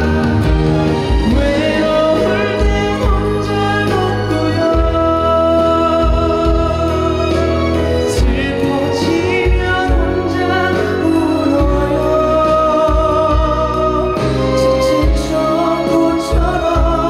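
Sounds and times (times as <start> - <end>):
band accompaniment: 0.0 - 17.0
low drum beat: 0.0 - 17.0
person singing: 0.0 - 17.0.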